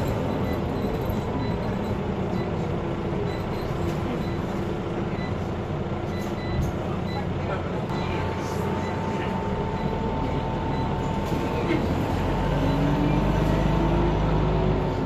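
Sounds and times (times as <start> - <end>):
diesel bus engine: 0.0 - 15.0
road noise: 0.0 - 15.0.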